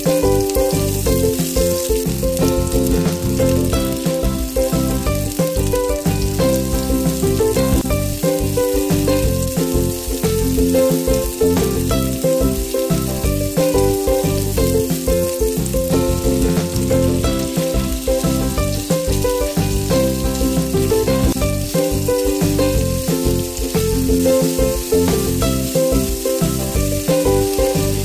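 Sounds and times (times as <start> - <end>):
background music: 0.0 - 28.0
food sizzling in hot oil: 0.0 - 28.0.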